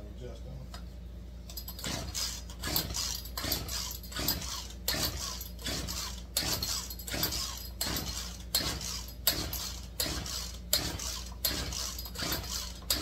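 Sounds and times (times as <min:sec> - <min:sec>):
chainsaw pull-start rasping: 0:01.7 - 0:13.0.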